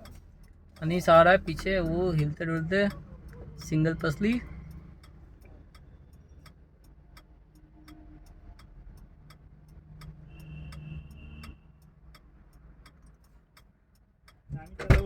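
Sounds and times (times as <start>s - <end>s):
turn signal relay ticking: 0.0s - 15.0s.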